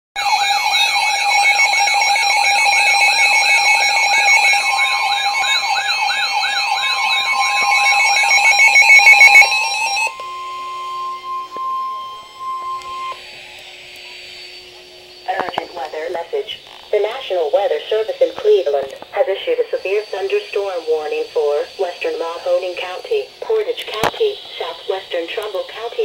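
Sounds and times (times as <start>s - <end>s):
electronic siren alarm sweeps: 0.2s - 26.0s
steady warning alarm tone: 0.2s - 26.0s.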